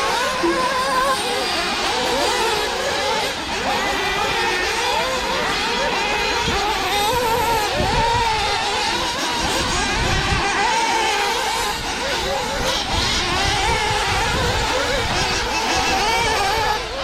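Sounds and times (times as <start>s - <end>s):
radio-control car motors: 0.0s - 17.0s.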